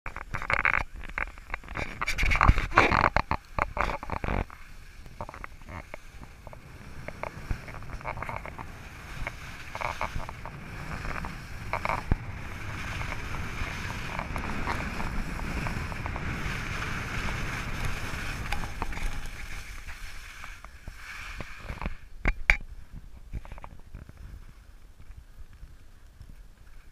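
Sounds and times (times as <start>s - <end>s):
skis carving over snow: 0.1s - 26.9s
wind rushing over microphone: 0.2s - 26.3s.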